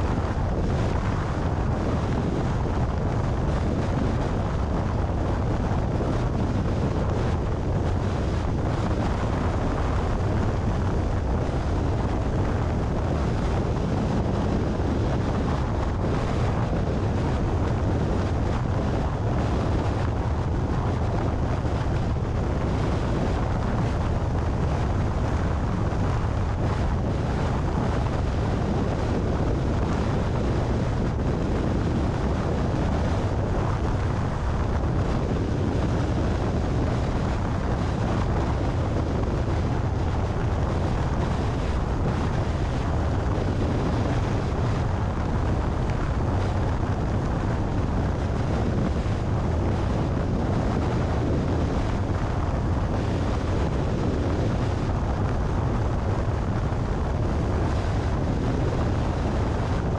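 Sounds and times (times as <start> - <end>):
road noise rumble: 0.0 - 59.9
wind buffeting microphone: 0.0 - 59.9.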